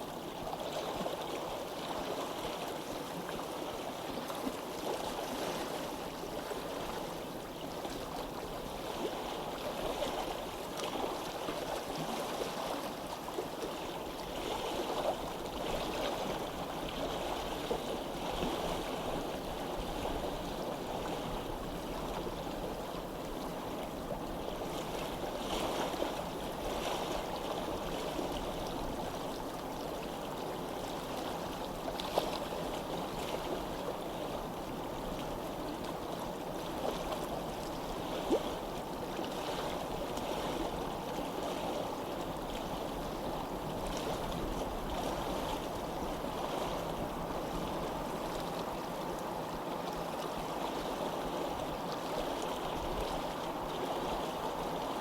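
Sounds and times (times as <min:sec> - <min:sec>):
water flowing in a stream: 0:00.0 - 0:55.0.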